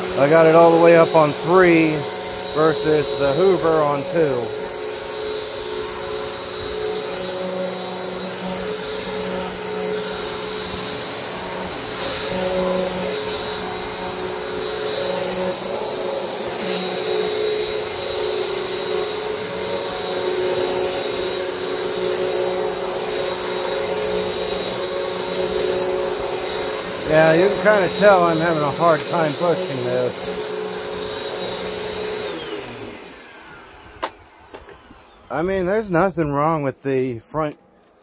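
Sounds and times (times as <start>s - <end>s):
vacuum cleaner motor whine: 0.0s - 36.6s.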